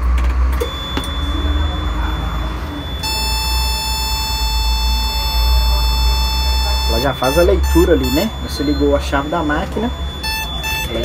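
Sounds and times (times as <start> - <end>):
low steady hum: 0.5 - 11.0
high-pitched alarm buzzer: 0.6 - 11.0.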